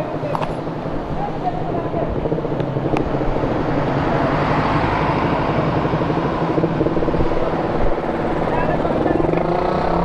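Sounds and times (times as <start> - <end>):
motorcycle engine running: 0.0 - 10.0
road noise: 0.0 - 10.0.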